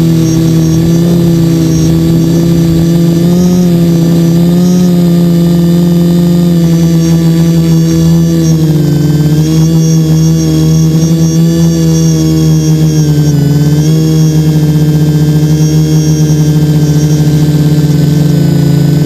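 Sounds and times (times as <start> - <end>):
drone motors buzzing: 0.0 - 19.0
faint high whine: 0.0 - 19.0.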